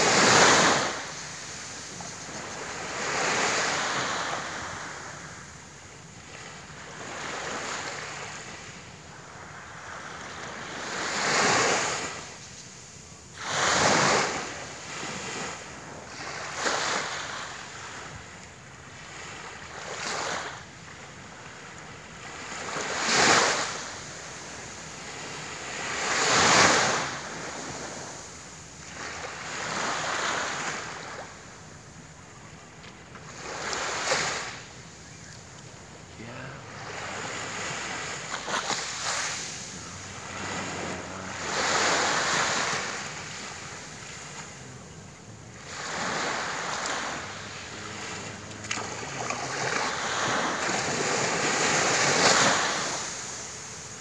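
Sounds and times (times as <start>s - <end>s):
waves washing onto sandy beach: 0.0s - 54.0s.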